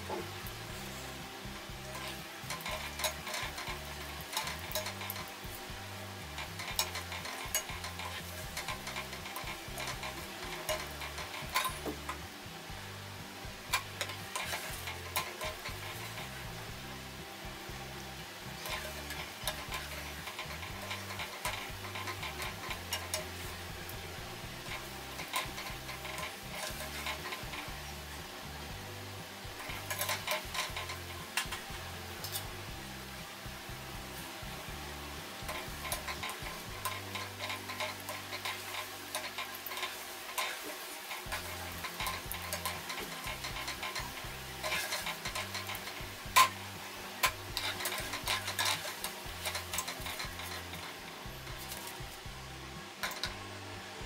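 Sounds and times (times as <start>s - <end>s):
oil sizzling: 0.0s - 54.0s
soft background music: 0.0s - 54.0s
skimmer clicking against pan: 1.8s - 12.4s, 13.6s - 16.8s, 17.7s - 32.5s, 34.1s - 52.2s, 53.0s - 53.4s.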